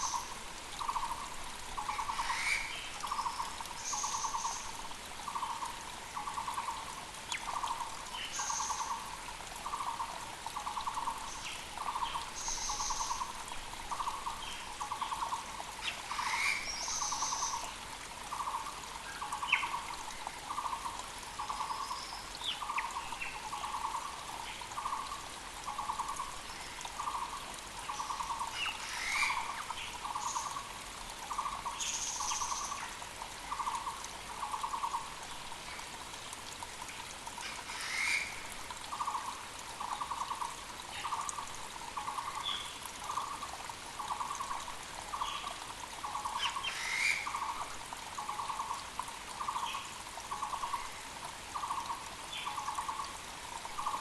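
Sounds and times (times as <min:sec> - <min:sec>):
faint creek rushing: 0:00.0 - 0:54.0.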